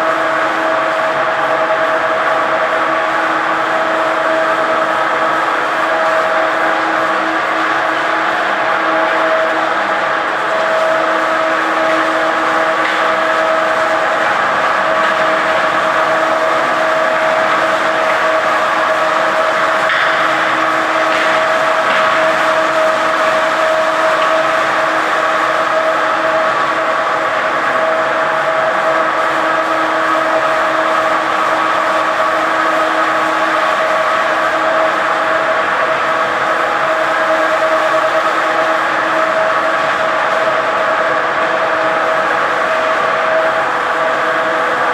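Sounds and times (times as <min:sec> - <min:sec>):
machine hum-whine: 0:00.0 - 0:44.9.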